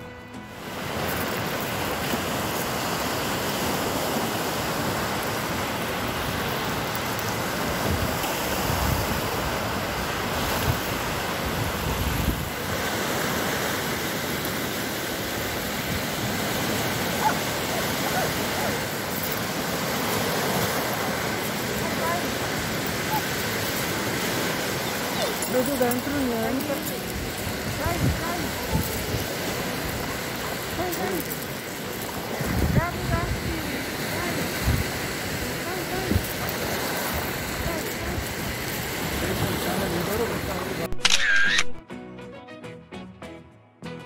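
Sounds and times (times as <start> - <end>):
waves washing on gravel shore: 0.6 - 40.9
wind gusting on microphone: 0.7 - 40.9.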